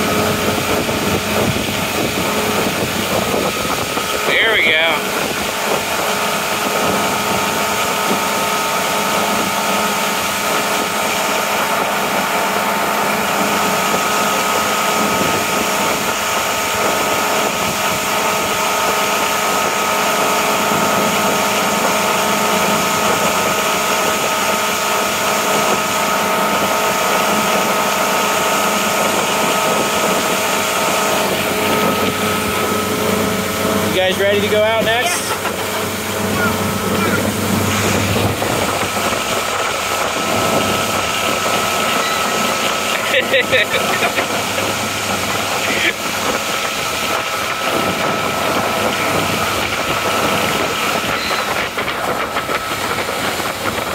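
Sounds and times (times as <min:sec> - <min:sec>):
motorboat engine whine: 0:00.0 - 0:53.9
wake water rushing: 0:00.0 - 0:53.9.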